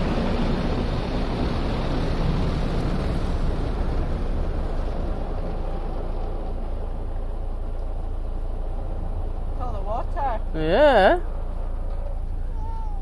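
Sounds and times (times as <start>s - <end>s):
car wash machinery moving: 0.0s - 13.0s
car wash spraying water: 0.0s - 13.0s.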